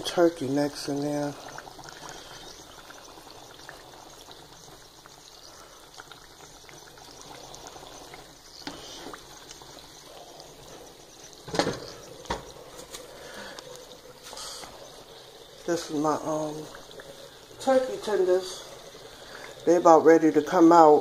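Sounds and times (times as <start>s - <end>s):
food frying in oil: 0.0s - 21.0s
pot bubbling: 0.0s - 21.0s.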